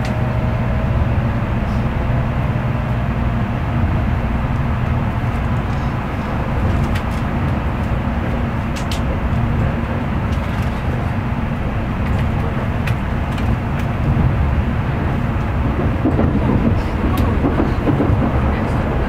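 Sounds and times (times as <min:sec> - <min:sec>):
constant hum: 0:00.0 - 0:19.0
train wheels rumbling on rail: 0:00.0 - 0:19.0.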